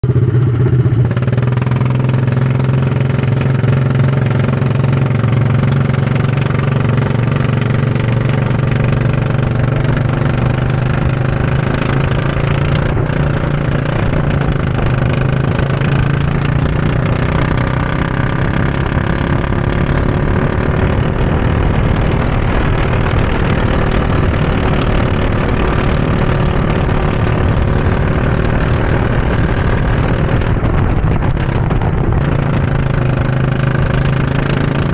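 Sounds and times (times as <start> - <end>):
go-kart engine: 0.0 - 34.9.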